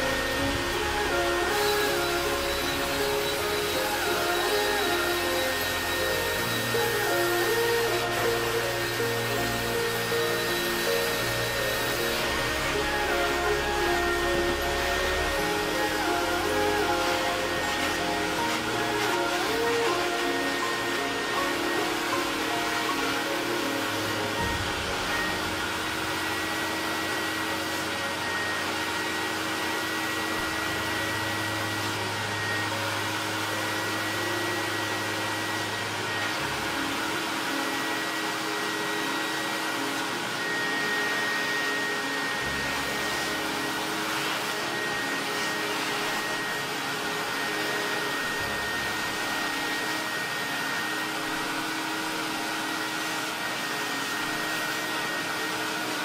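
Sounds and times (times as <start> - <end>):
vacuum motor whining: 0.0 - 56.0.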